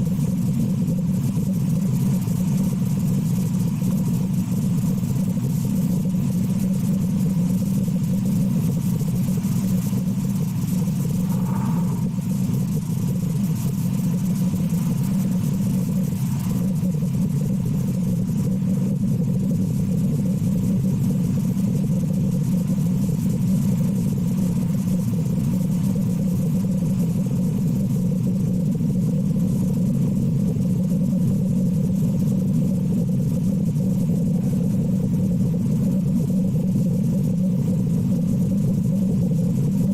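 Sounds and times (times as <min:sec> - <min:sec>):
low engine-like rumble: 0:00.0 - 0:39.9.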